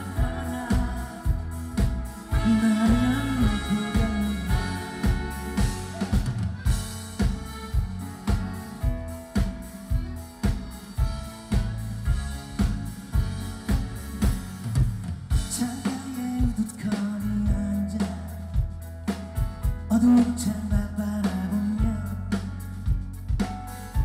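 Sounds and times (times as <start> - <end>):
bass and guitar: 0.0 - 24.0
drum kit steady beat: 0.0 - 24.0
held melody line: 0.0 - 24.0.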